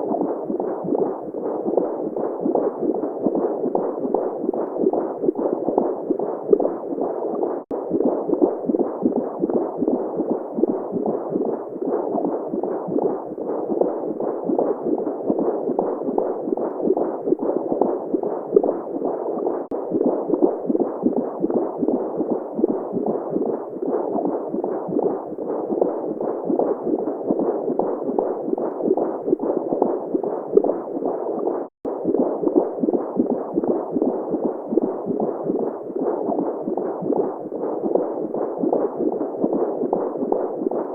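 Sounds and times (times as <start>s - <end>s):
muffled whooshing womb noise: 0.0s - 40.9s
pulsing heartbeat: 0.0s - 40.9s.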